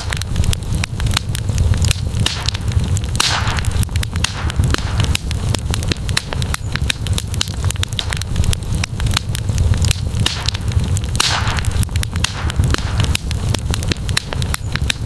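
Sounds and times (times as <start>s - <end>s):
campfire crackling and popping: 0.0s - 15.0s
fire hiss: 0.0s - 15.0s.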